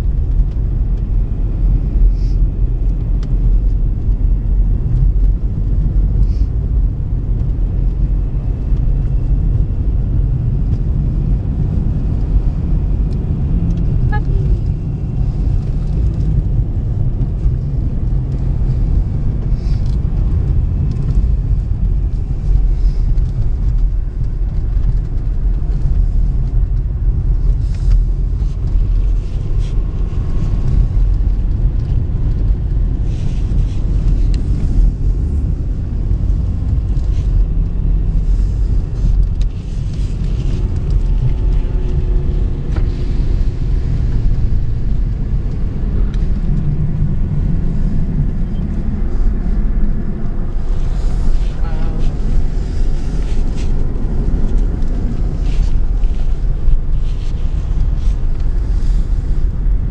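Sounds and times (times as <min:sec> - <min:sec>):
engine and tyre rumble in car: 0:00.0 - 0:59.9.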